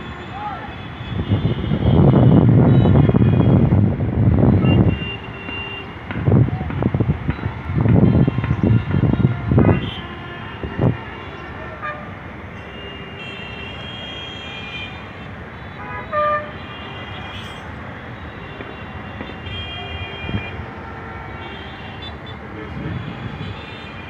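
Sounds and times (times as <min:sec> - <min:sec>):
car horns tooting: 0:00.0 - 0:03.7, 0:04.6 - 0:06.1, 0:07.3 - 0:24.0
hum of traffic: 0:00.0 - 0:24.0.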